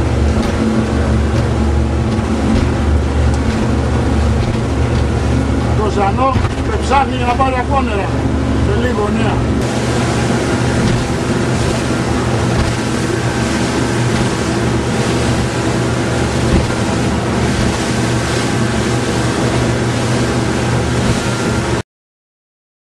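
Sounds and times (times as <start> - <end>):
motorboat engine drone: 0.0 - 21.8
rush of boat wake: 0.0 - 21.8
wind buffeting microphone: 0.0 - 21.8.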